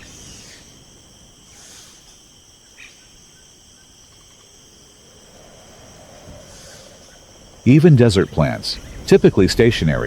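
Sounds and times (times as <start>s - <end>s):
insects chirring: 0.0s - 10.0s
soft hiss: 0.0s - 10.0s.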